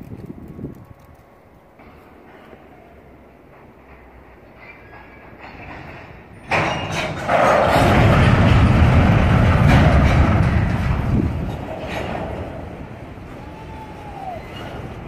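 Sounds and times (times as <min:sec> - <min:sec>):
freight train boxcars rolling: 0:00.0 - 0:15.0.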